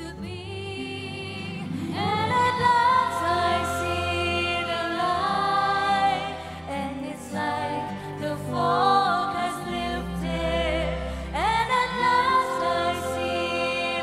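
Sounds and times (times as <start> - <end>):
ballad with singing: 0.0 - 14.0.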